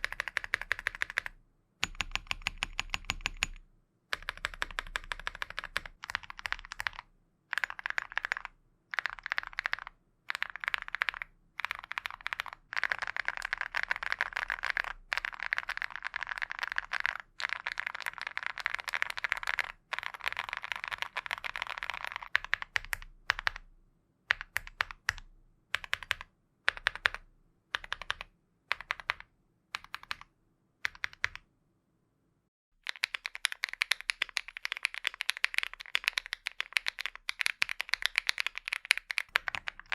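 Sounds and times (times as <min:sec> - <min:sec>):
mechanical keyboard typing: 0:00.0 - 0:23.7, 0:24.3 - 0:31.4, 0:32.8 - 0:39.9.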